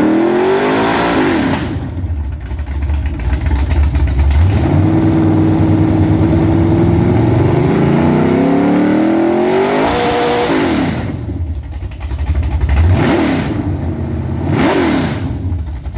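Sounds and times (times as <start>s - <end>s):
car engine revving: 0.0s - 2.4s, 4.2s - 11.8s, 12.5s - 15.9s.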